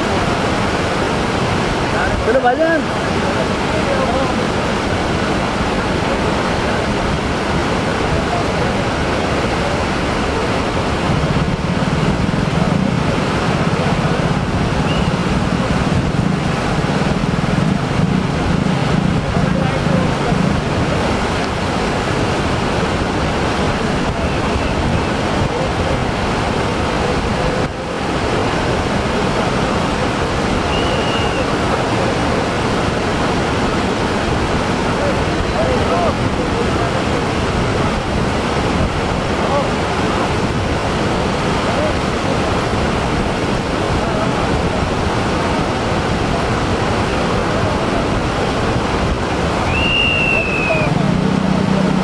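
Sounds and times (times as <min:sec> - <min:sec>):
waves breaking: 0:00.0 - 0:52.0
wind rumbling on microphone: 0:00.0 - 0:52.0.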